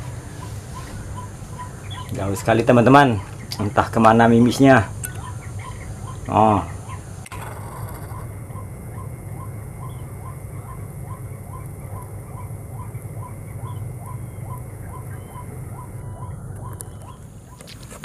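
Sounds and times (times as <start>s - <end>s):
waterhen calling: 0.0s - 17.8s
steady low rumble: 0.0s - 18.0s.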